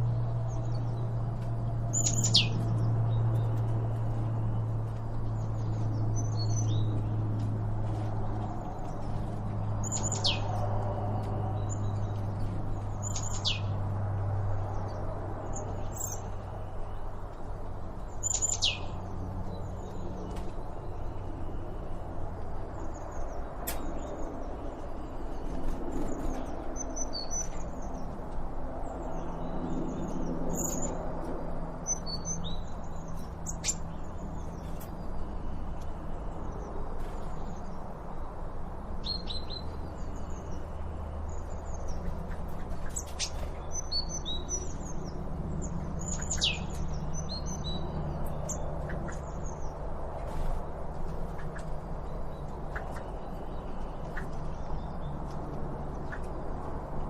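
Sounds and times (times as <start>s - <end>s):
steady low hum: 0.0s - 57.0s
wild birds chirping: 0.0s - 57.0s.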